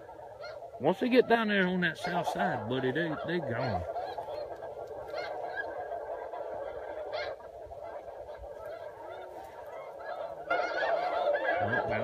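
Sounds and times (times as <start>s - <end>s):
geese honking and cackling: 0.0s - 12.0s.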